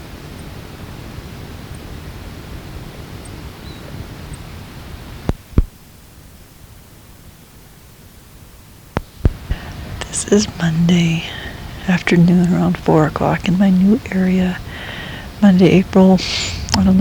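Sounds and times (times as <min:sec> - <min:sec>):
low wind rumble: 0:00.0 - 0:06.4, 0:08.9 - 0:17.0
recording hiss: 0:00.0 - 0:17.0.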